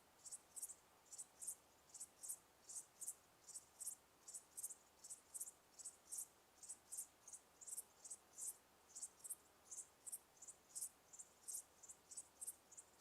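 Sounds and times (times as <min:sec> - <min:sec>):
faint background hiss: 0:00.0 - 0:13.0
cricket chirping: 0:00.2 - 0:13.0.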